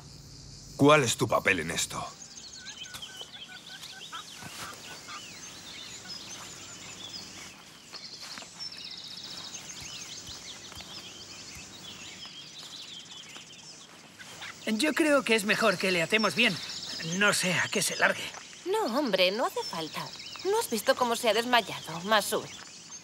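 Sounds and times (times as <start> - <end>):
bird trill: 0.0 - 23.0
small birds chirping and twittering: 0.0 - 23.0.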